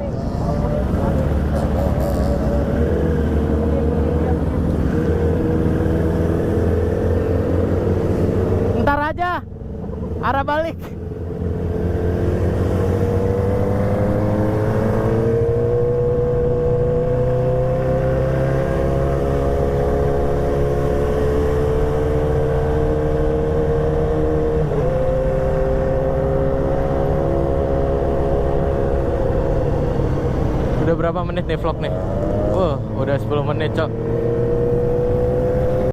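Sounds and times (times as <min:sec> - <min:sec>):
motorcycle engine cruising: 0:00.0 - 0:35.9.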